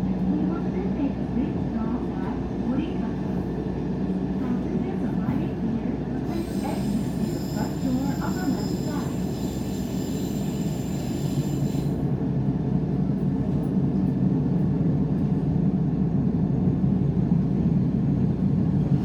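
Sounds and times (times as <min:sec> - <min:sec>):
railcar rumbling: 0:00.0 - 0:19.0.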